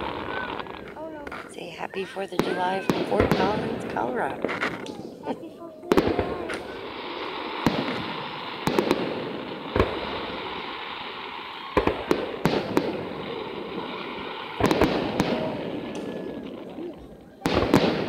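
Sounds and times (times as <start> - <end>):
crackling hiss: 0.0 - 18.0
fireworks bursting with sharp bangs: 0.0 - 18.0.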